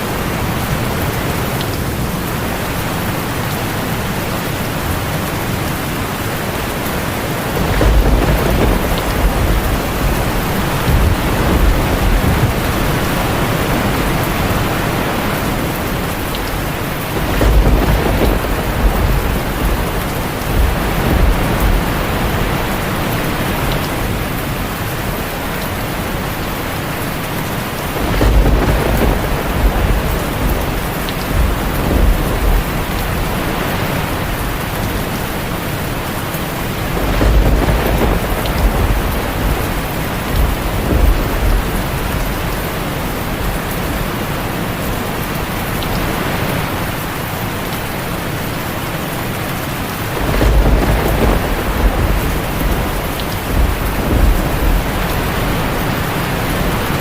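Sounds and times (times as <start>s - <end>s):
thunder rumbling: 0.0s - 45.3s, 49.8s - 57.0s
heavy rain on a tin roof: 0.0s - 57.0s.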